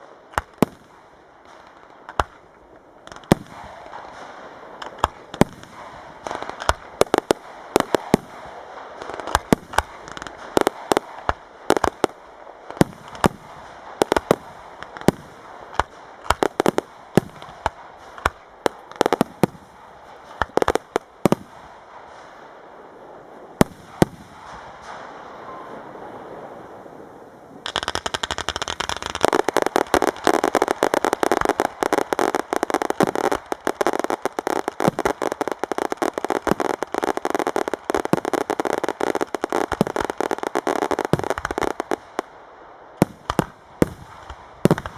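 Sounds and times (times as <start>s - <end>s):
firework bangs: 0.0s - 26.8s, 27.6s - 44.9s
crackling hiss: 0.0s - 44.9s.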